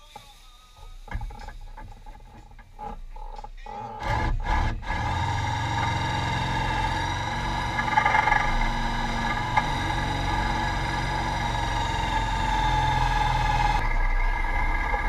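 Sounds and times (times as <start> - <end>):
engine idling: 0.8 - 15.0.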